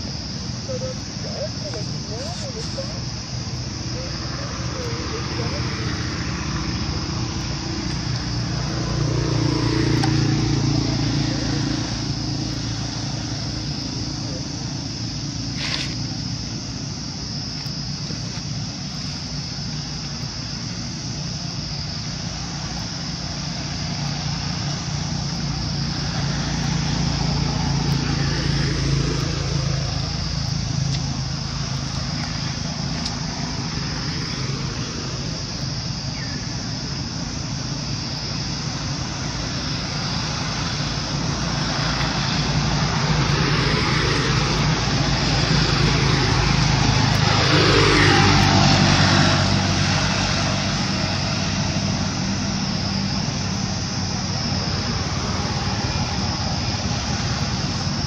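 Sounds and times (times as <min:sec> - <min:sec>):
vehicle engine hum: 0:00.0 - 0:58.0.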